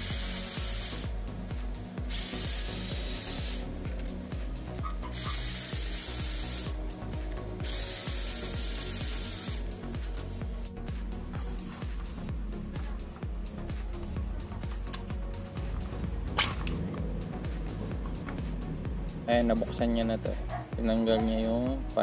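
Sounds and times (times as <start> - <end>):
electronic music with steady beat: 0.0 - 22.0.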